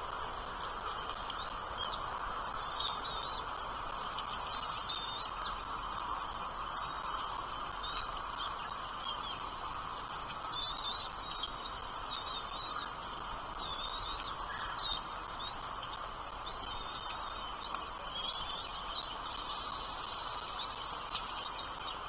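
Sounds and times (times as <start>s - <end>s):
background hiss: 0.0s - 22.0s
small birds chirping: 0.7s - 22.0s.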